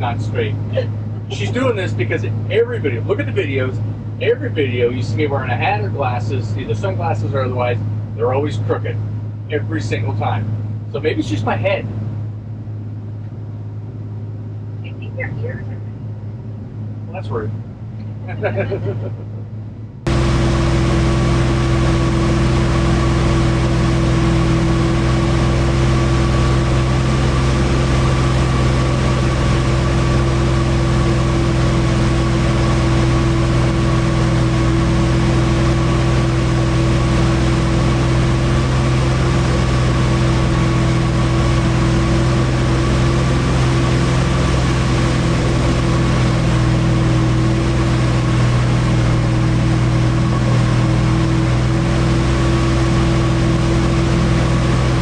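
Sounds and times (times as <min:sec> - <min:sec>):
high engine whine: 0:00.0 - 0:55.0
motorboat engine humming: 0:00.0 - 0:55.0.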